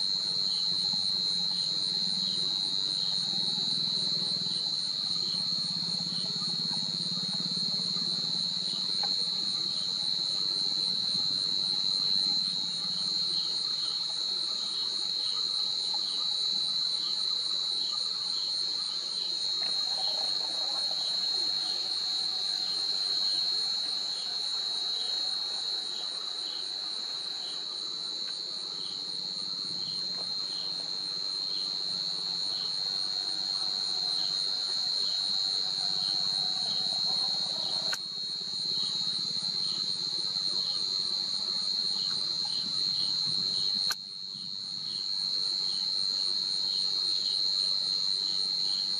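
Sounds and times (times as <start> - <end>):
insect chorus: 0.0 - 48.9.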